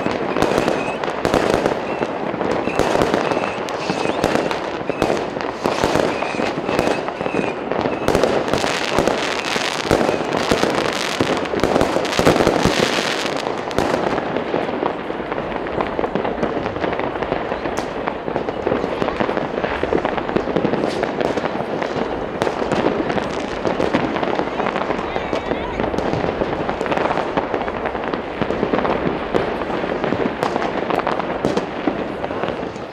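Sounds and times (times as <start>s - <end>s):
fireworks and firecrackers banging: 0.0s - 32.9s.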